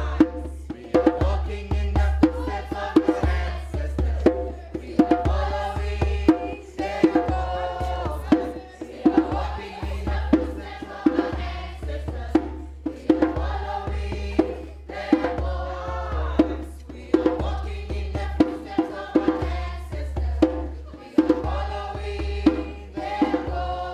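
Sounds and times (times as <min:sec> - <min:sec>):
voices singing over a beat: 0:00.0 - 0:23.9.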